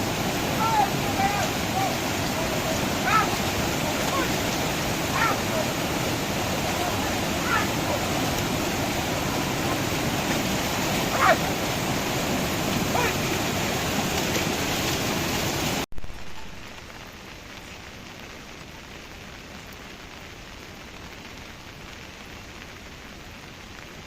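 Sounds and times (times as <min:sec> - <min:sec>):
heavy rain: 0:00.0 - 0:24.0
running water: 0:00.0 - 0:24.0
soft rain: 0:00.0 - 0:24.0.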